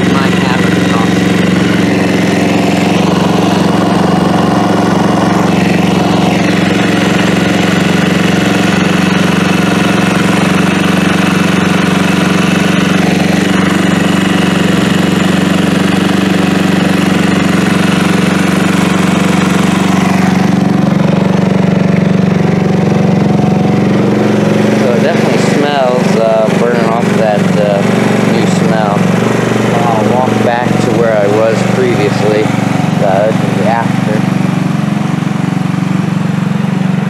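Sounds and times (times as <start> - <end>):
scooter engine idling: 0.0 - 37.0.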